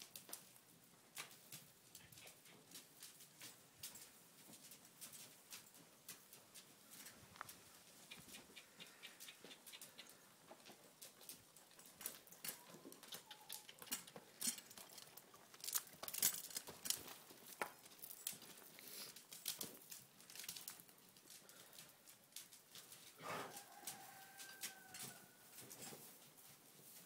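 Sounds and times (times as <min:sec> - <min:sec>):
hooves walking on soft dirt: 0:00.0 - 0:27.0.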